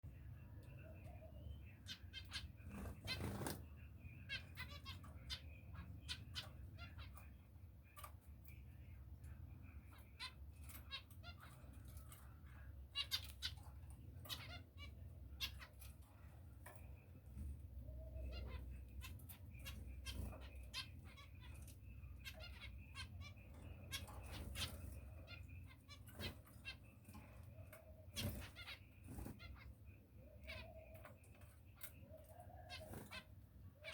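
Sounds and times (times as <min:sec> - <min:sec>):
finches chirping: 0:00.1 - 0:33.9.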